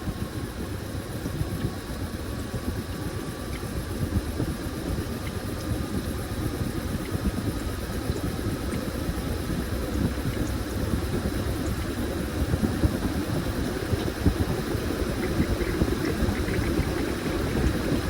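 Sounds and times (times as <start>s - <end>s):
faint constant whine: 0.0s - 18.0s.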